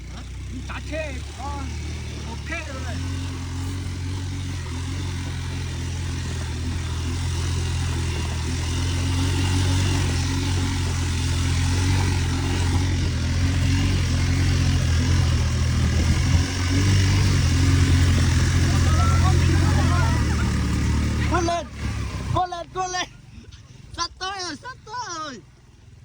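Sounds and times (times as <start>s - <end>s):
vehicle engine humming: 0.0s - 26.0s
wind and road noise: 0.0s - 26.0s.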